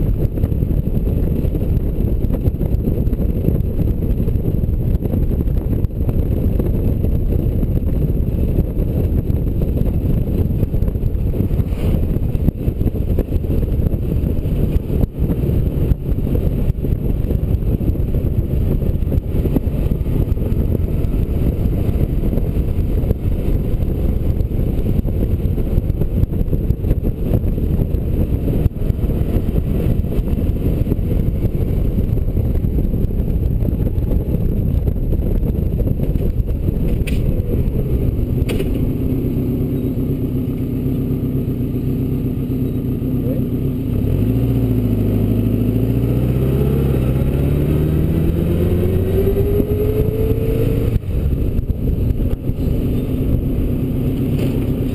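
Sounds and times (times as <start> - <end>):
wind buffeting microphone: 0.0 - 43.1, 43.8 - 54.9.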